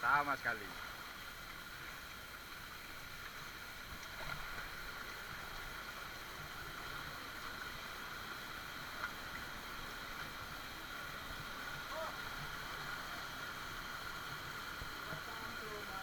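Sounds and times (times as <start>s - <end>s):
river water rushing: 0.3s - 16.0s.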